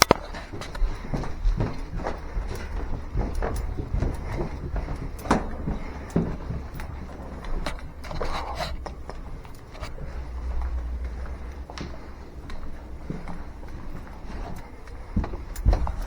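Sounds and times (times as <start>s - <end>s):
footsteps: 0.0s - 16.0s.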